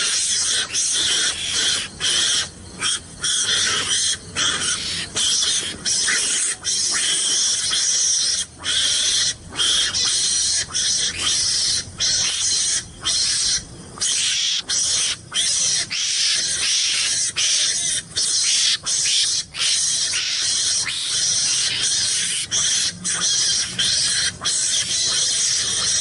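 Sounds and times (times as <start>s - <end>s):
mongoose hissing calls: 0.0s - 26.0s.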